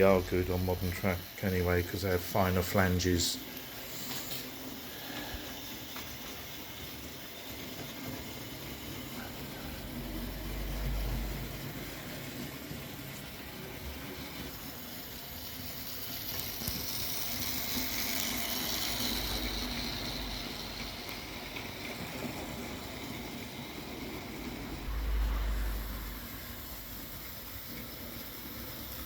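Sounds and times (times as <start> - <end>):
model train motors whirring: 0.0 - 29.0
wheels rolling on rail: 0.0 - 29.0.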